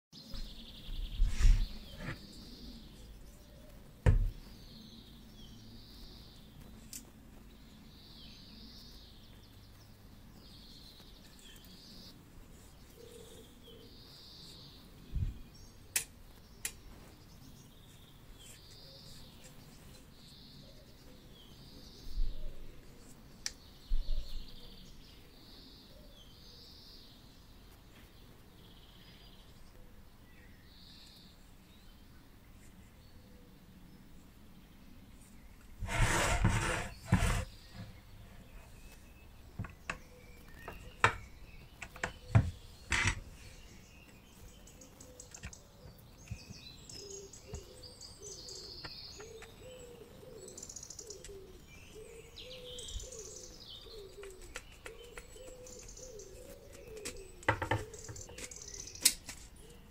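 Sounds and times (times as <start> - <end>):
bird chirping: 0.1 - 59.9.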